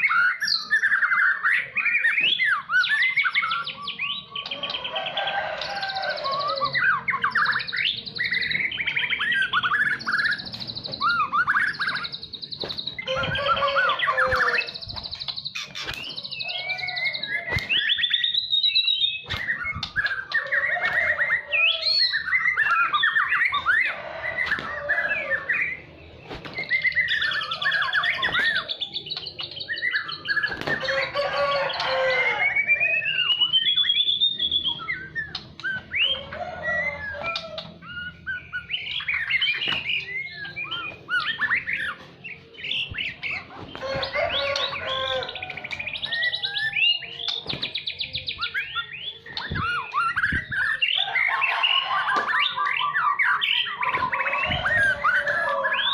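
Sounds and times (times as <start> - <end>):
bird singing varied song: 0.0 - 55.9.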